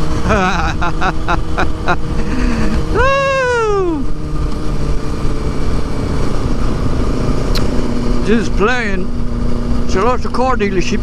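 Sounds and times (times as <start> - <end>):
motorcycle engine drone: 0.0 - 11.0.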